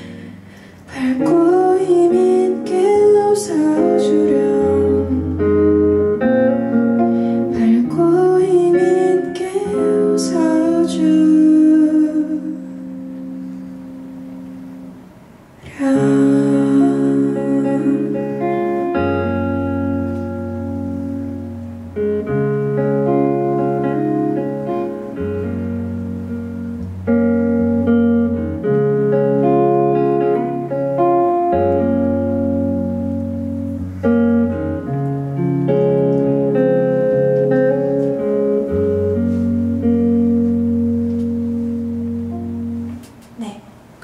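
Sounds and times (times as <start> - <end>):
acoustic guitar chords: 0.0 - 43.3.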